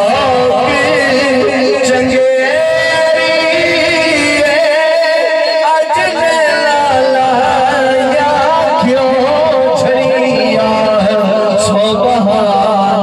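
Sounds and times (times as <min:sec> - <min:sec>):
man singing solo: 0:00.0 - 0:13.0.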